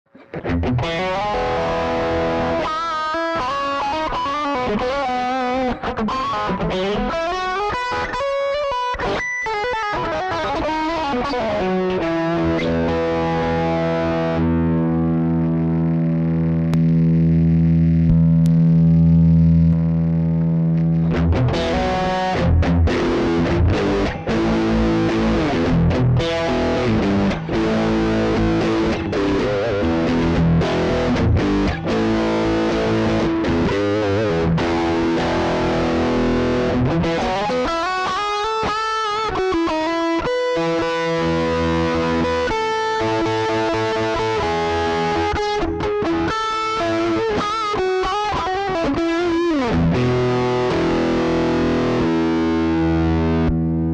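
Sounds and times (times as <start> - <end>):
distorted electric guitar: 0.1 - 53.9.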